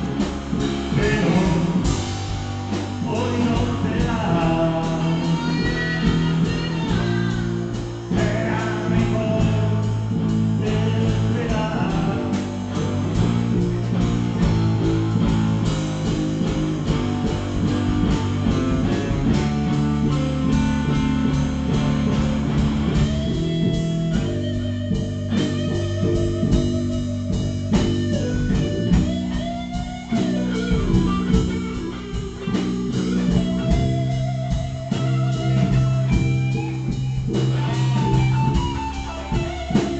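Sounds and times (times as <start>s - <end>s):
blues-rock guitar: 0.0s - 39.9s
steady bass line: 0.0s - 39.9s
wavering lead notes: 0.0s - 39.9s.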